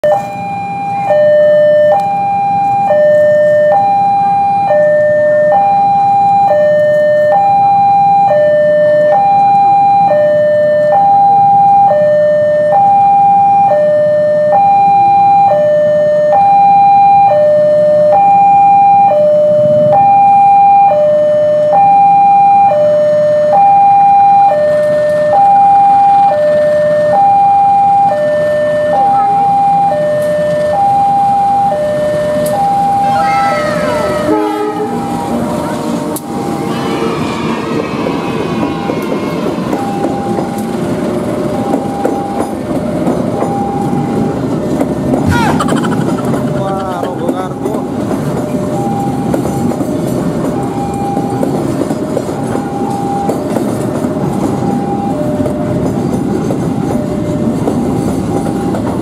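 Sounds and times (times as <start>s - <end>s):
level crossing two-tone alarm: 0.0s - 36.7s, 39.7s - 44.8s, 47.8s - 49.9s, 50.5s - 51.6s, 52.4s - 53.5s, 54.4s - 57.3s.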